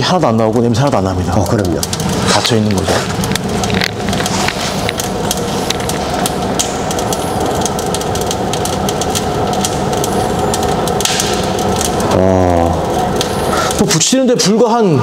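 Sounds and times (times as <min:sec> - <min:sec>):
fire crackles: 0:00.0 - 0:15.0
roaring fire in stove: 0:00.0 - 0:15.0.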